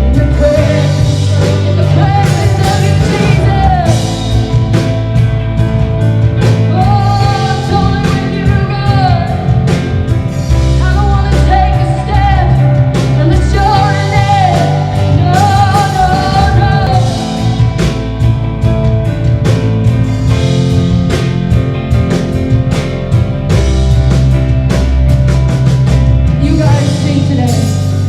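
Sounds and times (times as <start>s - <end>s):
bass: 0.0s - 28.0s
guitar: 0.0s - 28.0s.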